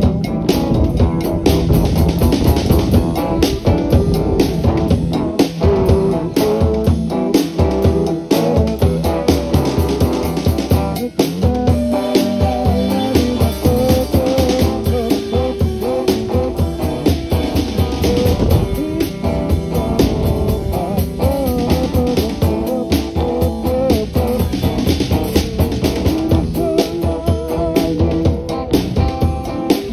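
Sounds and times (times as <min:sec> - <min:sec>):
bass guitar: 0:00.0 - 0:29.9
drum kit beat: 0:00.0 - 0:29.9
electric guitar: 0:00.0 - 0:29.9.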